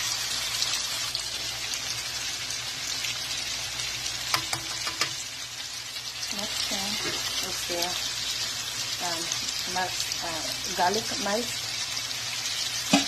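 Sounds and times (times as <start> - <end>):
sausage sizzling in a frying pan: 0.0 - 13.0.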